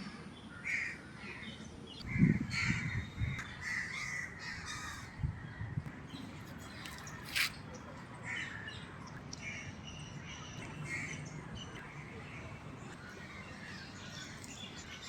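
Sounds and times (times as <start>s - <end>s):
steady low background noise: 0.0s - 15.0s
small birds chirping: 1.2s - 15.0s.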